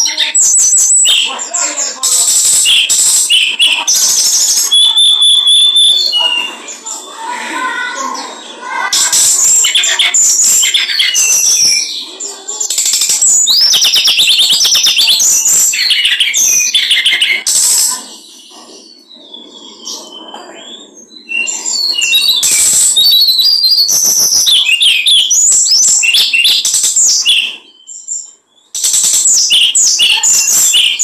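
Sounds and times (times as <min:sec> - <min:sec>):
songbird chattering song: 0:00.0 - 0:31.0.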